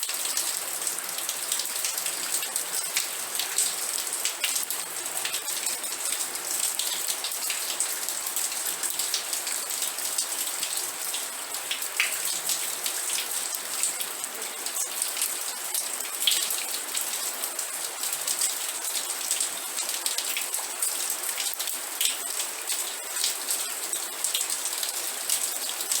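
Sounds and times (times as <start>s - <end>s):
rain drops on hard surface: 0.0s - 26.0s.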